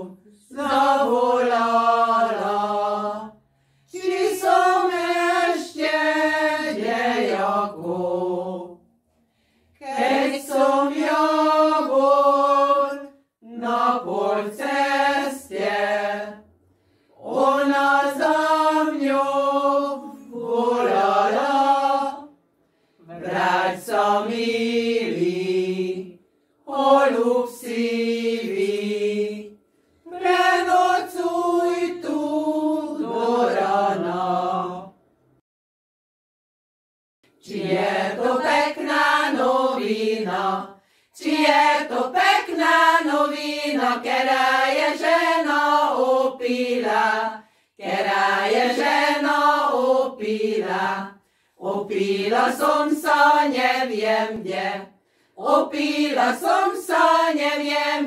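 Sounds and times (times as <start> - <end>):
women's choir singing a cappella: 0.0 - 8.9, 9.8 - 16.5, 17.1 - 22.4, 23.0 - 35.0, 37.4 - 58.0.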